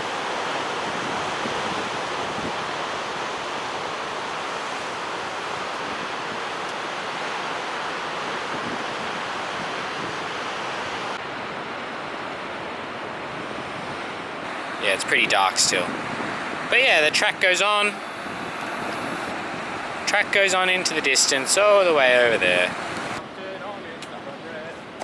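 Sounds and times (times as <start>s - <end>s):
ocean surf: 0.0s - 25.0s
wind: 0.0s - 25.0s.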